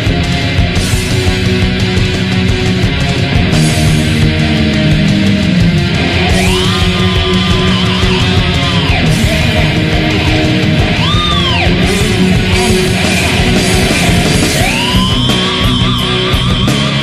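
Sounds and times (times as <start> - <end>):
heavy metal music: 0.0 - 17.0
high lead guitar note: 0.0 - 17.0.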